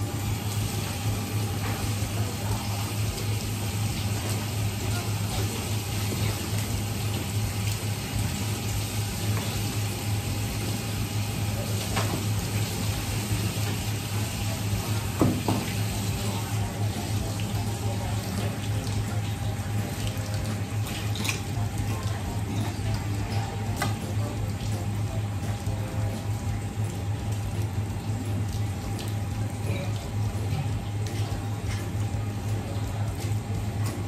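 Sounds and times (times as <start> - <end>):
water running from a tap: 0.0 - 34.0.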